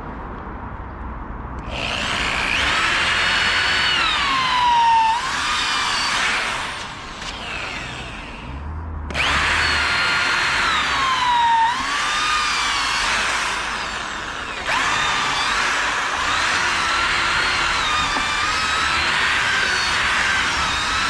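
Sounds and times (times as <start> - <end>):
power tool whining into wood: 1.6 - 21.0.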